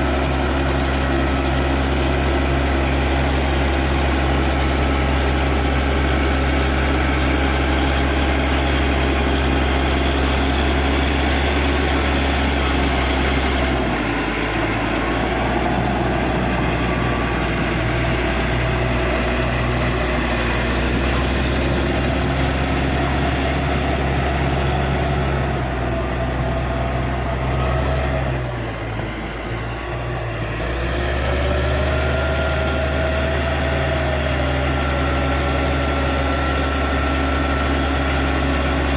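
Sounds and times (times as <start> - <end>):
bulldozer diesel engine revving: 0.0 - 38.9.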